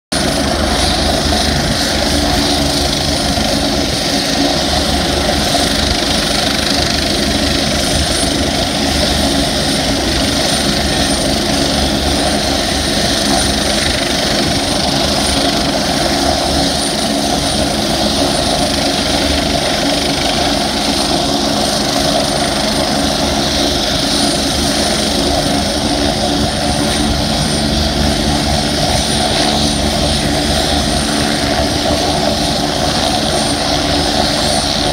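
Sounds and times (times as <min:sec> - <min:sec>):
helicopter turbine whine: 0:00.1 - 0:34.9.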